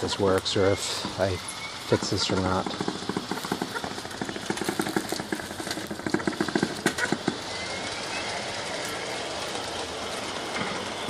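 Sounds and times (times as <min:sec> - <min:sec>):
model train clicking clatter: 0:00.0 - 0:11.0.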